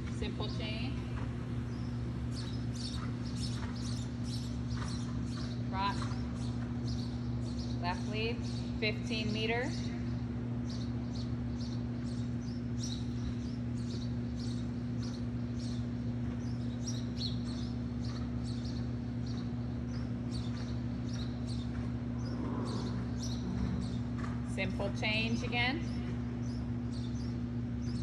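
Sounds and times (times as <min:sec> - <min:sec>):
steady low hum: 0:00.0 - 0:28.0
small birds chirping: 0:00.1 - 0:28.0.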